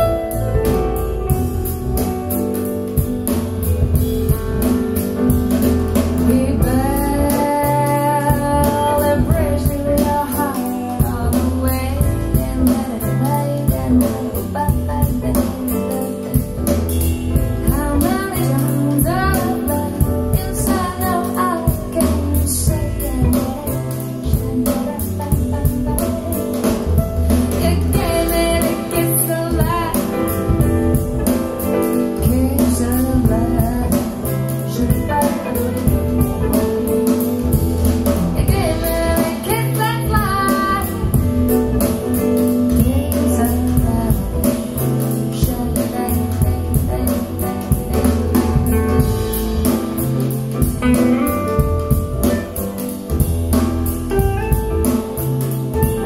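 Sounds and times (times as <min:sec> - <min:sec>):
guitar bass and drums: 0:00.0 - 0:56.0
woman singing jazzy song: 0:00.0 - 0:56.0.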